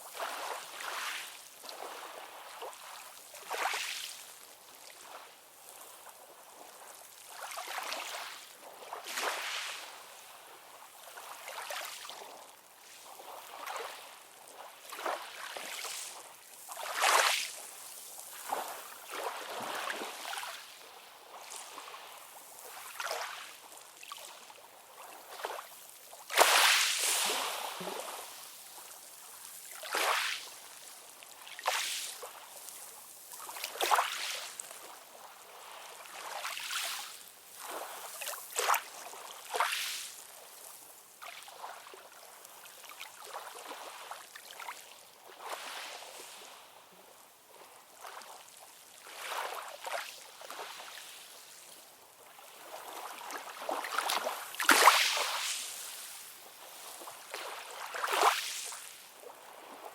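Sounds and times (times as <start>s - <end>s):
small waves lapping and splashing: 0.0s - 59.9s.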